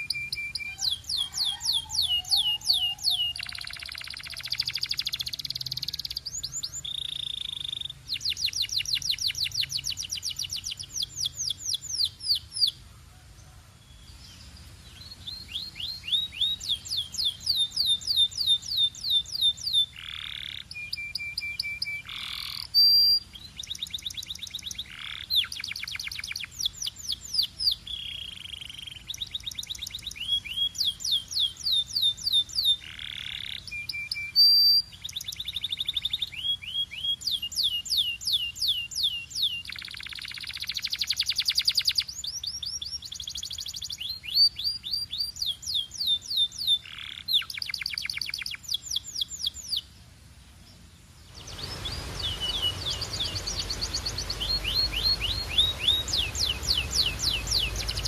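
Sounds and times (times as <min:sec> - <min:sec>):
canary singing trills: 0:00.0 - 0:12.8, 0:13.9 - 0:49.9, 0:51.2 - 0:58.0.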